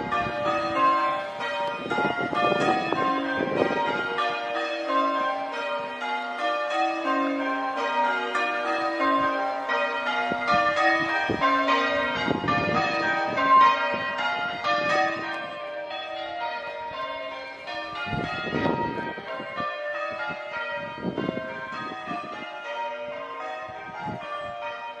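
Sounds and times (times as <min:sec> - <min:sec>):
church bells change ringing: 0:00.0 - 0:25.0.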